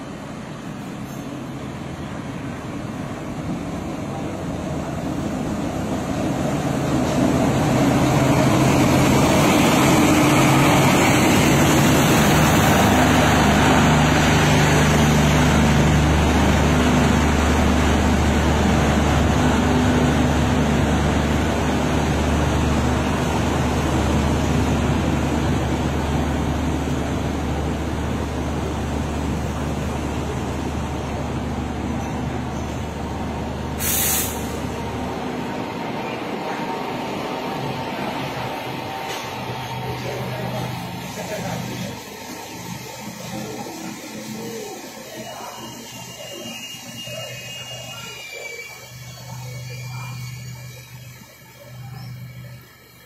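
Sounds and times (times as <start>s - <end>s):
diesel train pulling in: 0.0s - 53.0s.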